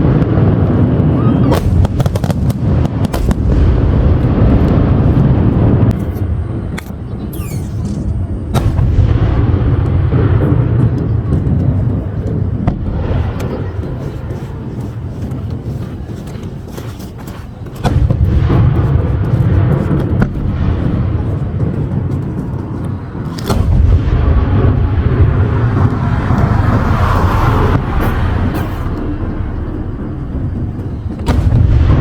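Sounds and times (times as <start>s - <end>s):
fireworks booming: 0.0s - 32.0s
fireworks sharp cracks: 0.0s - 32.0s.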